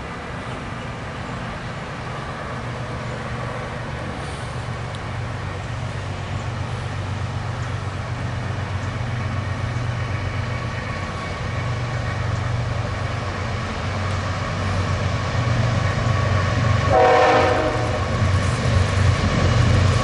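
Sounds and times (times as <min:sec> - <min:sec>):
locomotive engine drone: 0:00.0 - 0:20.0.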